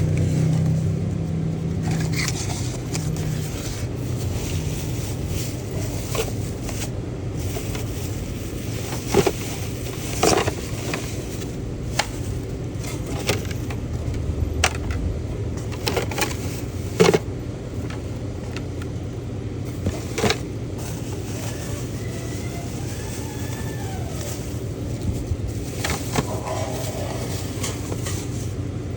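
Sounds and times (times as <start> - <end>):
steady low hum: 0.0 - 28.9
packaging scraping and crinkling: 1.8 - 14.2, 15.6 - 18.7, 19.6 - 28.7.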